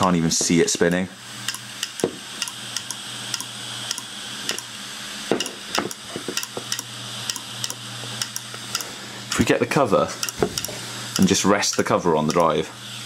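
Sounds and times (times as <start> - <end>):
hard drive platter humming: 0.0 - 13.0.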